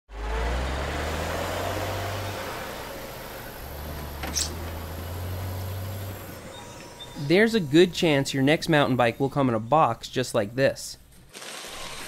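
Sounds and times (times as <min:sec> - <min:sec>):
vehicle engine humming: 0:00.1 - 0:11.2.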